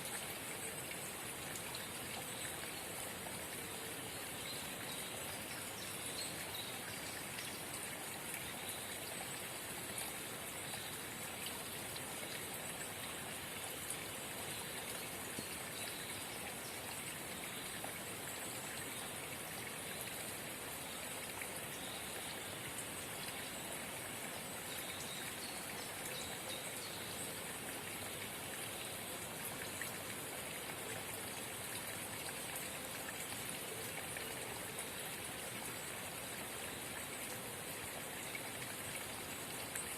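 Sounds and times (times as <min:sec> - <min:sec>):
spring water babbling: 0:00.0 - 0:39.9.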